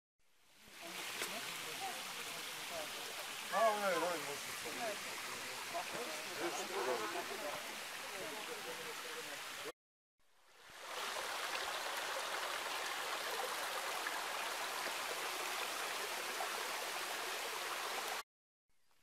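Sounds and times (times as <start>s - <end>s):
stream rushing over stones: 0.5s - 9.7s, 10.5s - 18.2s.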